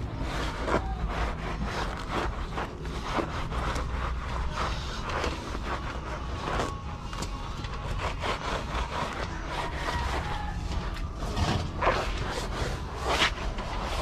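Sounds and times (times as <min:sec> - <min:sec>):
scrubber rubbing wire mesh: 0:00.0 - 0:14.0.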